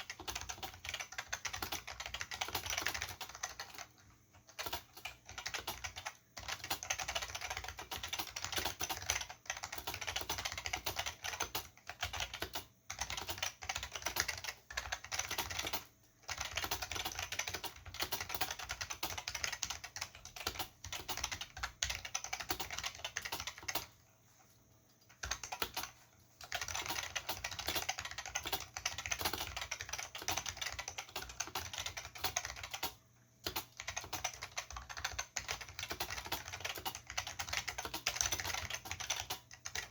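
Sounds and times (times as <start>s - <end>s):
mechanical keyboard typing: 0.0s - 24.0s, 24.9s - 39.9s.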